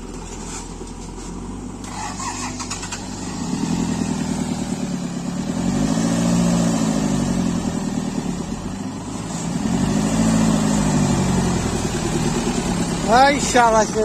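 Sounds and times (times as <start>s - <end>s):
diesel engine revving under load: 0.0s - 14.0s.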